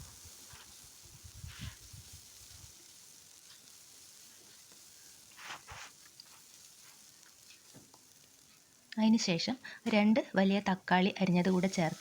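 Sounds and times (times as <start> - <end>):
onion frying in oil: 0.0 - 12.0.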